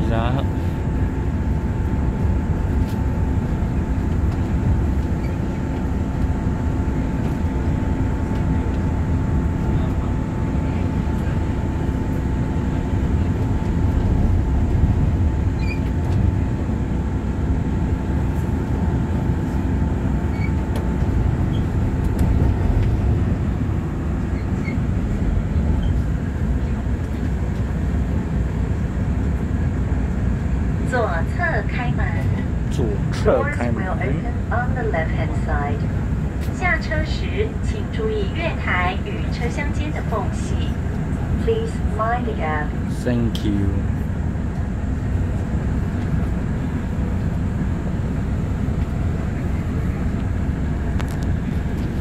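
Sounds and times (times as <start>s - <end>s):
train interior rumble: 0.0s - 52.0s.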